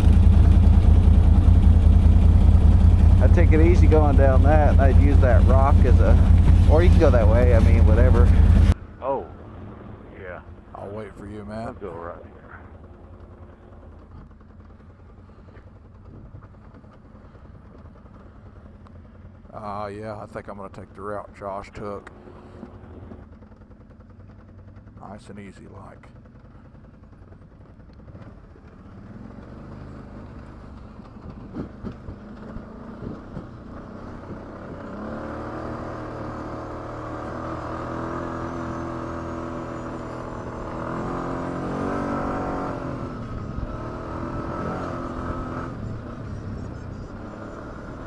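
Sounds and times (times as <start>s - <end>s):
atv engine: 0.0s - 48.0s.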